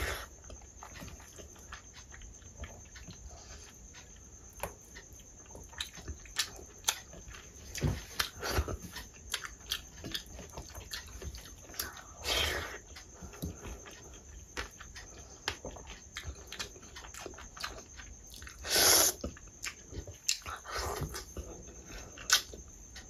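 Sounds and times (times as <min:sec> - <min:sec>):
wet chewing and lip smacks: 0:00.3 - 0:23.0.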